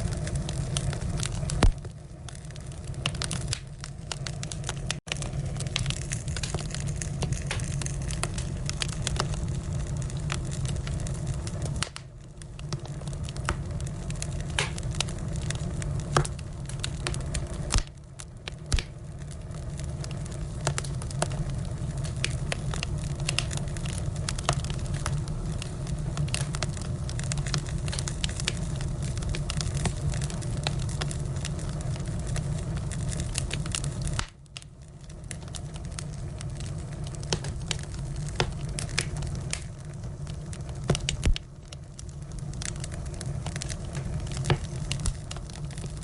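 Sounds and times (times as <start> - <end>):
firewood crackling and popping: 0.0 - 46.0.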